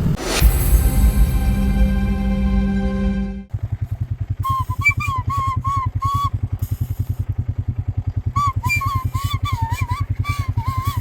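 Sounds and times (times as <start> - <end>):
engine puttering: 0.0 - 11.0.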